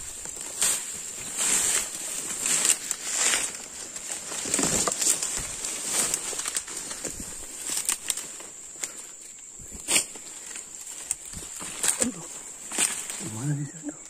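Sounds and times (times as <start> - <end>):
footsteps through rustling undergrowth: 0.0 - 13.8
steady high-pitched hiss: 0.0 - 14.0.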